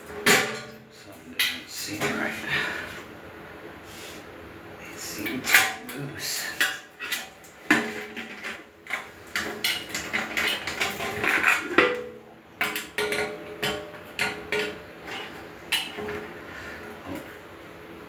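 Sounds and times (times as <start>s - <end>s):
metal grill parts clanking: 0.0s - 2.3s, 5.2s - 17.4s.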